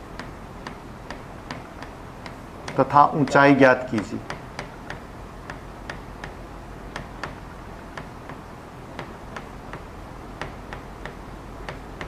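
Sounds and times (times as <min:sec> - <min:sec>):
low steady hum: 0:00.0 - 0:12.0
pen tapping on display board: 0:00.2 - 0:12.0.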